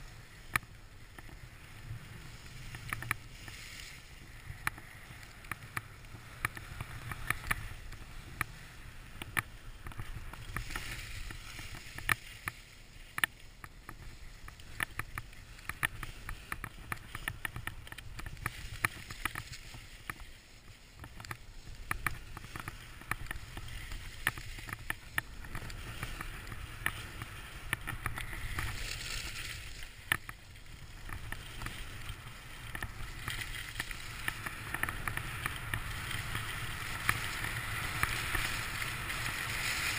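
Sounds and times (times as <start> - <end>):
skis scraping over packed snow: 0.0 - 39.9.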